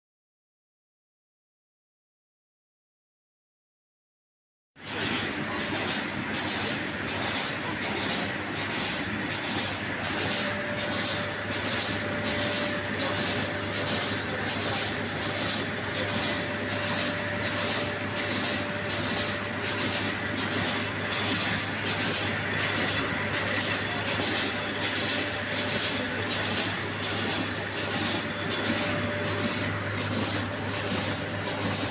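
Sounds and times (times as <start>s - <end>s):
machine running with pulsing hiss: 4.8s - 31.9s.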